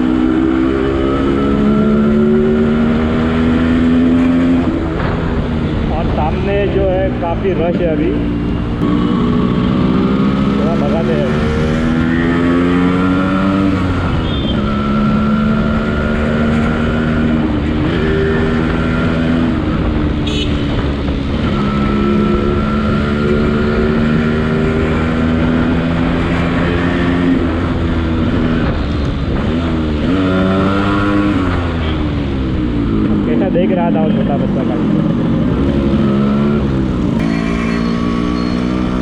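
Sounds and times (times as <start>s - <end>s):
motorcycle engine at speed: 0.0s - 6.0s, 8.1s - 33.4s.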